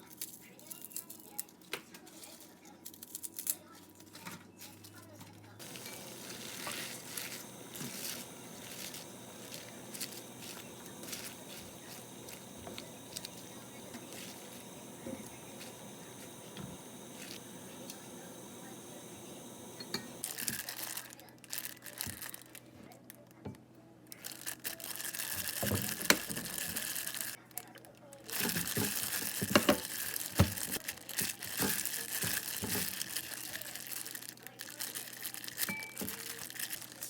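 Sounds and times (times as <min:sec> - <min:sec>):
plastic packaging crinkling: 0:00.0 - 0:23.2, 0:24.1 - 0:37.0.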